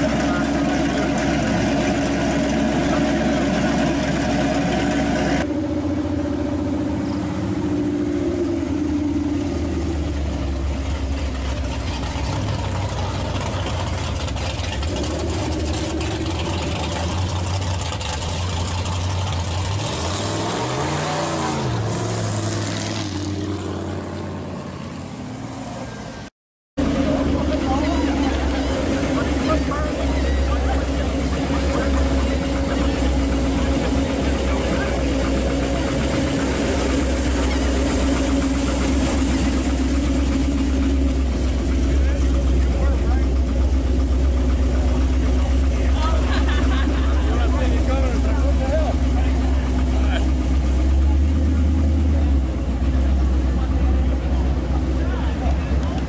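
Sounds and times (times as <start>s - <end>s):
engine rev: 0.0s - 56.0s
muscle car exhaust: 0.0s - 56.0s.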